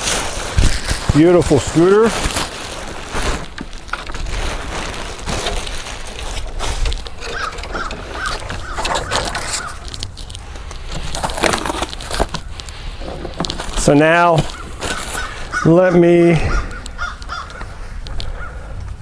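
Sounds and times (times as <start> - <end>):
plastic wrap rustling: 0.0 - 15.8.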